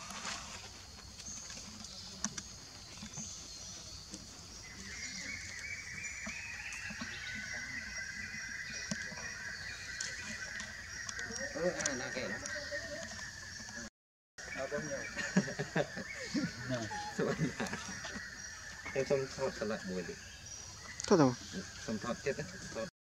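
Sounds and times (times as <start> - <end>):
high insect drone: 0.0 - 22.9
low insect trill: 0.0 - 22.9.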